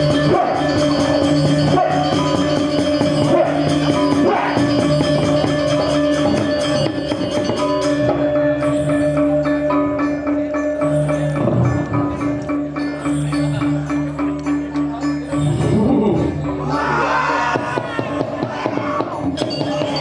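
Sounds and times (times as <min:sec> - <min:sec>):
drums: 0:00.0 - 0:20.0
metallophone strikes: 0:00.0 - 0:20.0
ringing metallic tones: 0:00.0 - 0:20.0.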